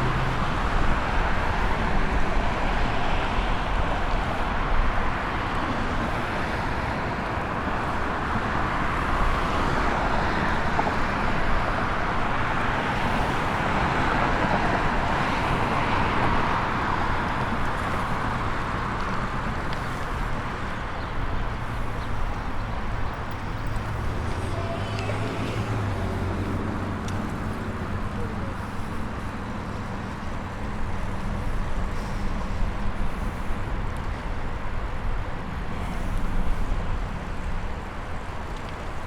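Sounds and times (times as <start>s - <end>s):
road traffic hum: 0.0s - 39.0s
vehicles passing: 0.0s - 39.0s.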